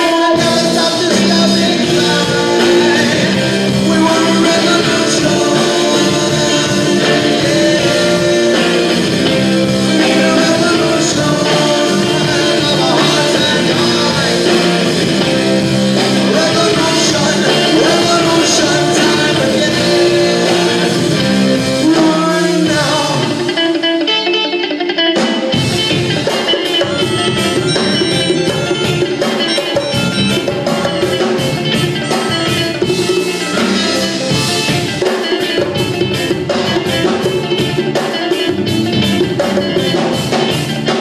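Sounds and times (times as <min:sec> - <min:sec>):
live rock band: 0:00.0 - 0:41.0.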